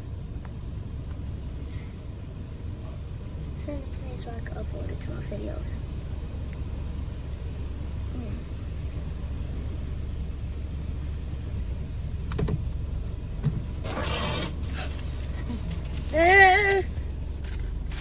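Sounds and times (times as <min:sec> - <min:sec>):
car idling: 0:00.0 - 0:18.0.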